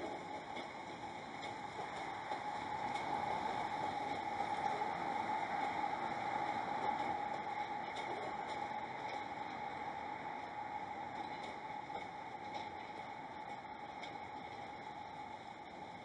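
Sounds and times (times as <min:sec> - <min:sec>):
distant train moving slowly: 0:00.0 - 0:16.0
steady rushing noise: 0:00.0 - 0:16.0.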